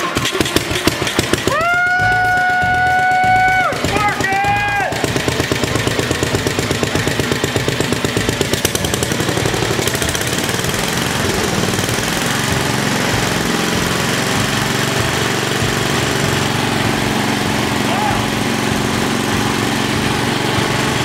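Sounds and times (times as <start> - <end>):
small engine running unevenly: 0.0 - 21.0.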